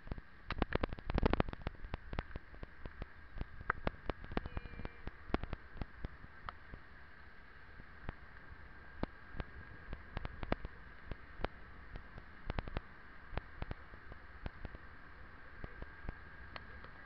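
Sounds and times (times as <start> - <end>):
faint steady high hum: 0.0 - 17.0.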